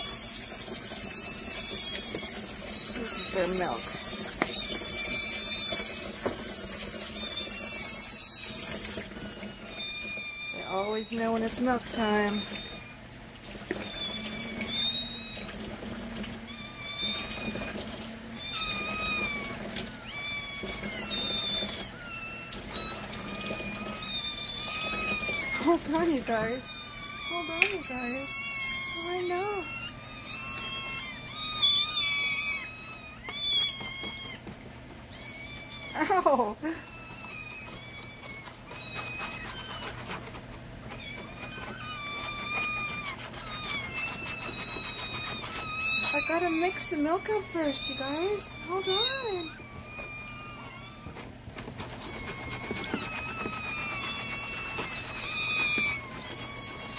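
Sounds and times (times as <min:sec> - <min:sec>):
kittens meowing: 0:00.0 - 0:56.9.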